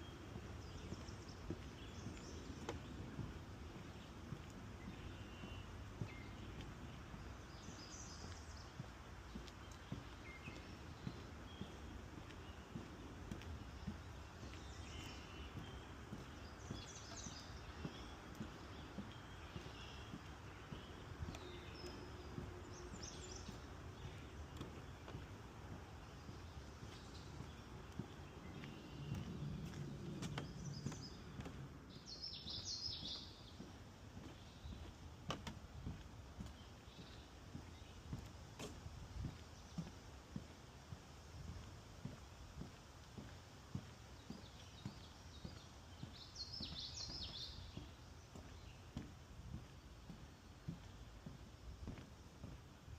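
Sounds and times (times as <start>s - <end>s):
birdsong notes: 0.0s - 38.8s, 43.7s - 52.6s
faint low outdoor rumble: 0.0s - 52.9s
footsteps on wooden boardwalk: 0.0s - 52.9s.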